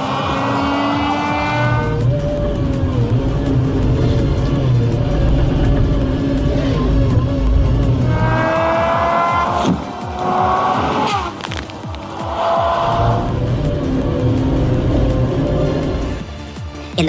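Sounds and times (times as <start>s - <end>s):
rising whine: 0.0s - 16.5s
engine rumbling: 0.0s - 17.0s.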